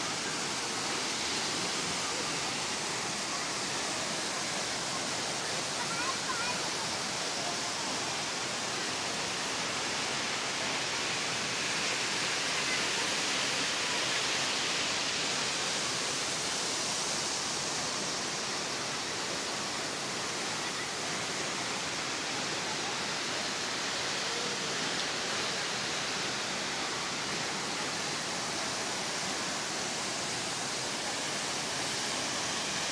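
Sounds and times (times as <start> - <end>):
waterfall roaring: 0.0 - 32.9.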